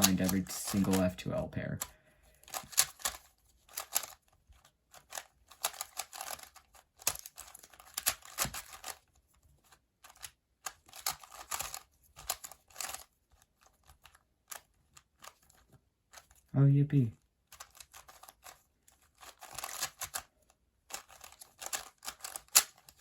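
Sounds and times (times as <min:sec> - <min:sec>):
puzzle cube clicking: 0:00.0 - 0:16.5, 0:17.5 - 0:23.0.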